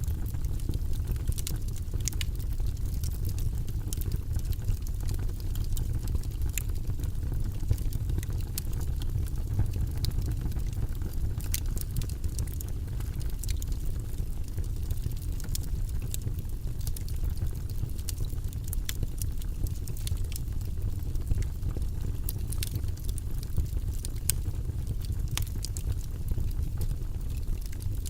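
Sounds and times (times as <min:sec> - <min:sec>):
fireplace fire crackling: 0:00.0 - 0:28.0.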